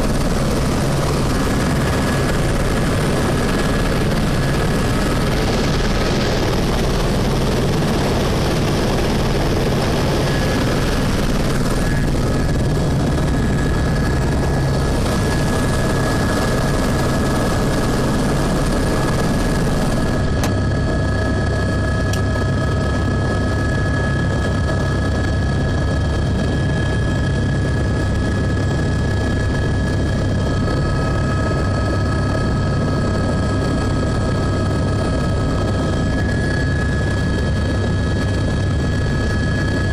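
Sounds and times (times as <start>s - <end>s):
helicopter rotor and engine noise: 0.0s - 39.9s
helicopter turbine whine: 0.0s - 39.9s.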